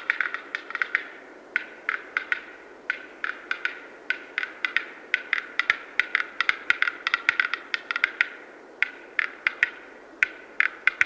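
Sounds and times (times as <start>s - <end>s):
bird display song of dry clicks: 0.0s - 11.0s.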